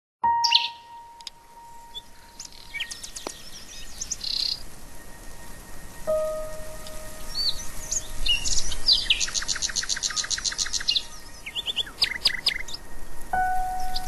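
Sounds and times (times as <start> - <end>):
long steady tones: 0.2 - 12.0, 12.6 - 14.0
small birds chirping: 0.3 - 4.8, 6.1 - 14.0.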